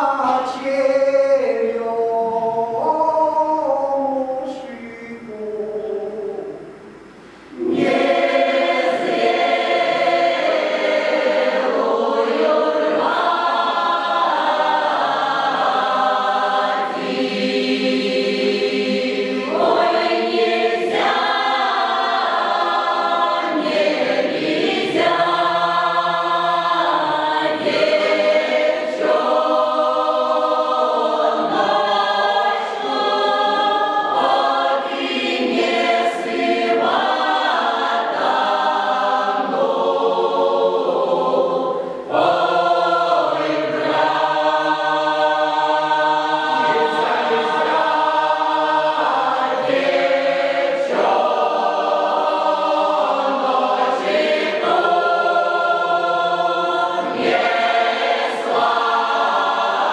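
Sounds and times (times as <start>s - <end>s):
mixed choir singing folk song: 0.0s - 59.9s.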